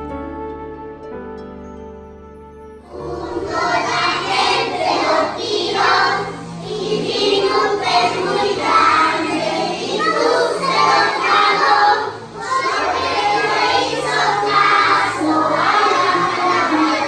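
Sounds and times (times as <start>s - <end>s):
children singing together: 2.8s - 17.0s.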